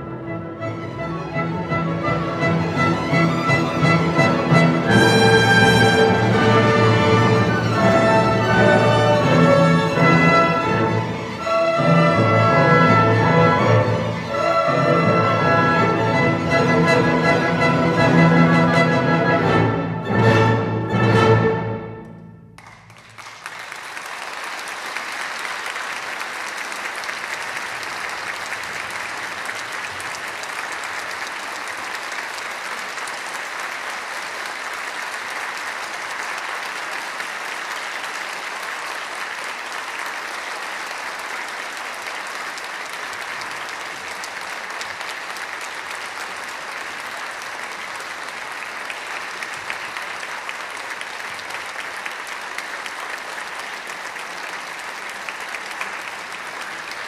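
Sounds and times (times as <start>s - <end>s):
audience applauding: 1.5s - 18.2s, 22.6s - 57.0s.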